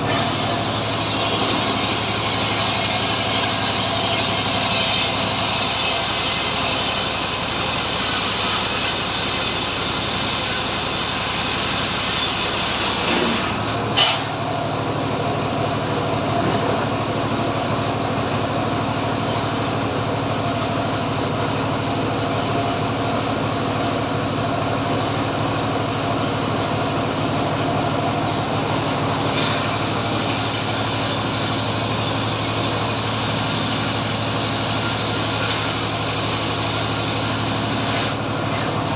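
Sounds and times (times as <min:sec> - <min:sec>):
engine-driven sawmill running: 0:00.0 - 0:38.9.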